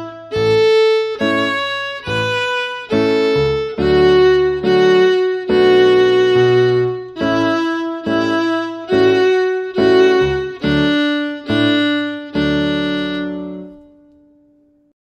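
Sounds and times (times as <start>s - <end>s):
fiddle playing slow tune: 0.0s - 14.2s.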